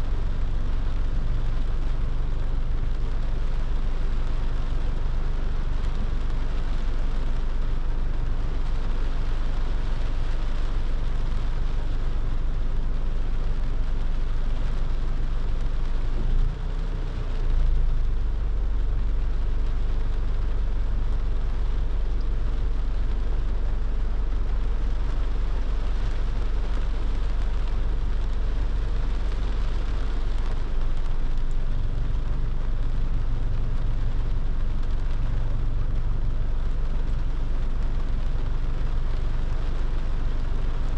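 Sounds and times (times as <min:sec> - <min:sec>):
engine and tyre rumble: 0:00.0 - 0:40.9
rain and road spray hiss: 0:00.0 - 0:40.9.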